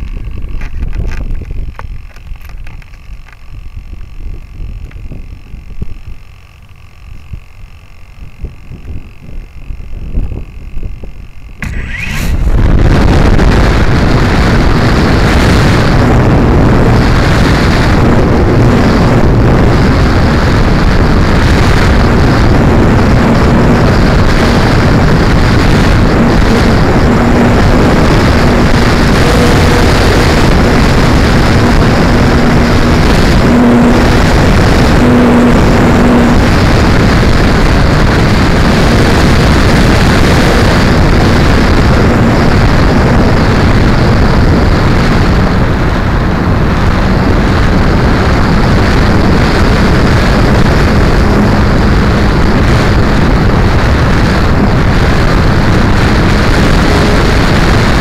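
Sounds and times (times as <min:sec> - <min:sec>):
electric motor and propeller hum: 0:00.0 - 0:58.0
wind buffeting microphone: 0:00.0 - 0:58.0.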